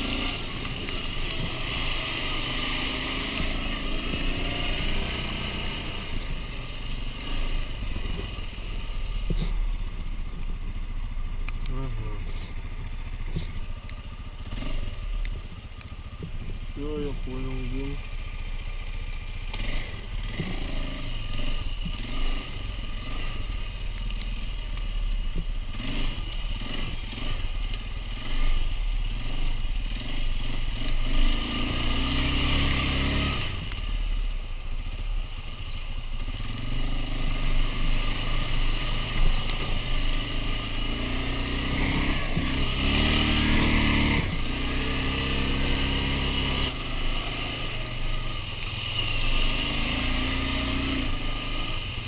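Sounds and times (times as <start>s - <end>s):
quad bike engine revving: 0.0s - 9.8s, 11.7s - 18.5s, 19.4s - 34.1s, 36.2s - 52.0s.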